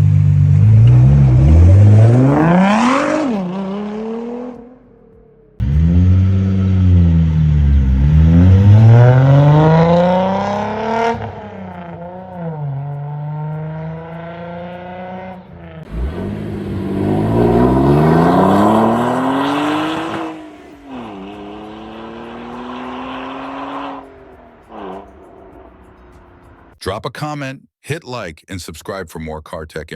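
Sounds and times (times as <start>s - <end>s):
car engine accelerating hard: 0.0s - 5.0s, 5.6s - 26.8s.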